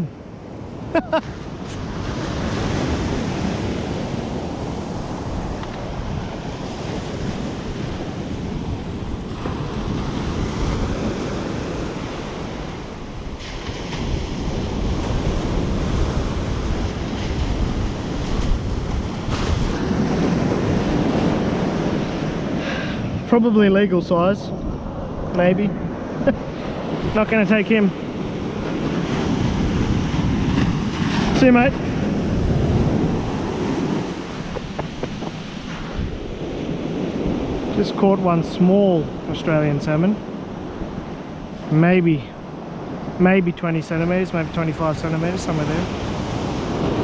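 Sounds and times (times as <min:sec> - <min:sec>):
wind buffeting microphone: 0:00.0 - 0:47.0
surf breaking on beach: 0:00.8 - 0:24.0, 0:24.8 - 0:47.0.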